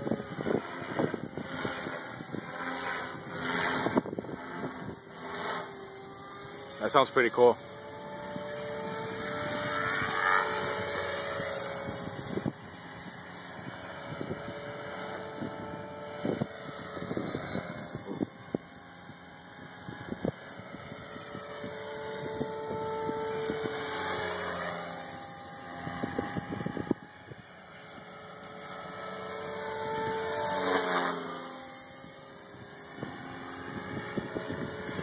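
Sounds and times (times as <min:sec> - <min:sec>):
rc helicopter whine: 0:00.0 - 0:35.0.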